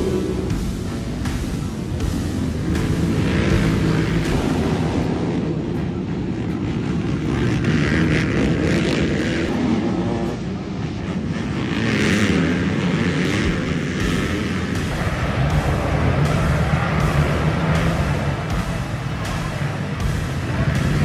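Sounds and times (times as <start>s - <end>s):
atv engines revving: 0.0s - 21.0s.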